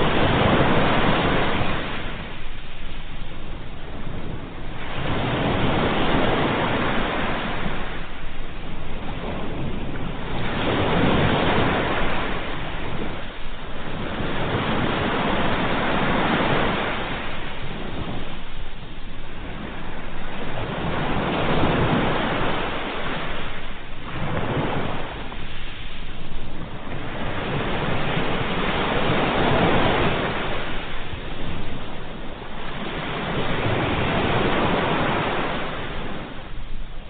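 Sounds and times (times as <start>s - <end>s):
sea waves washing in: 0.0s - 37.0s.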